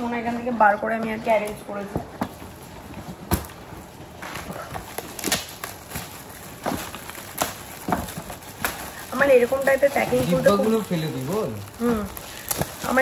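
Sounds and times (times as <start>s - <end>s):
plastic wrapping crinkling: 1.2s - 13.0s.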